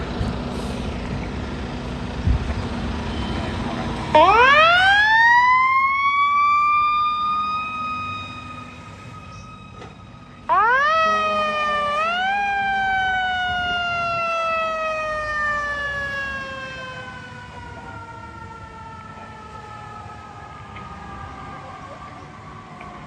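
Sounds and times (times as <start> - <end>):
mechanical siren wailing: 3.1 - 9.7, 10.5 - 23.0.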